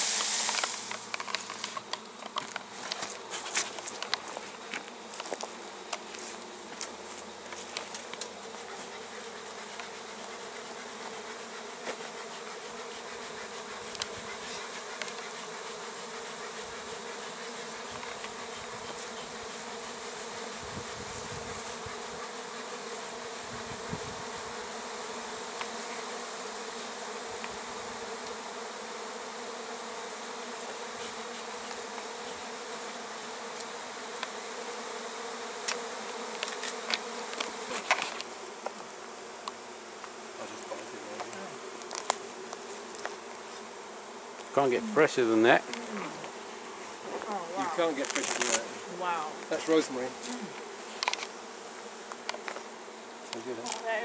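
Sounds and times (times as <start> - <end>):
honeybees buzzing: 0.0 - 54.0.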